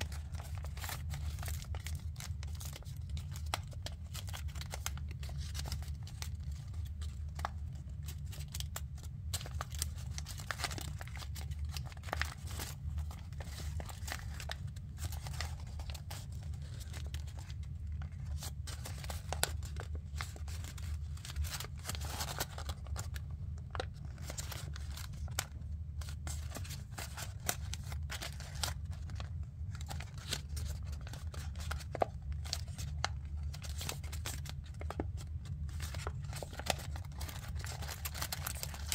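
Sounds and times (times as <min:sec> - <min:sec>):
paper crinkling and crackling: 0:00.0 - 0:38.9.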